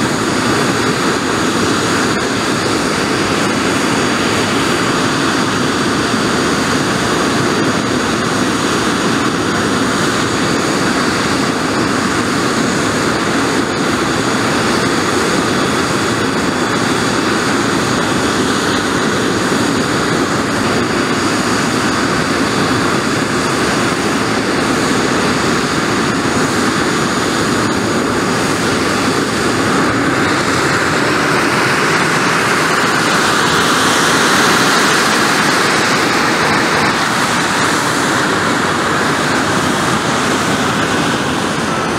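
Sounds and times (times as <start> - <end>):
jet engine idling with whine: 0.0 - 41.9.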